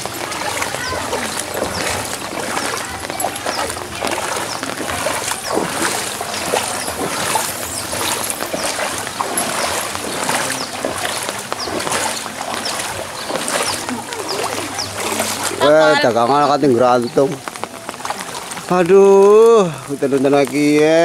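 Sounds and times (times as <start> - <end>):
wading through splashing water: 0.0 - 21.0.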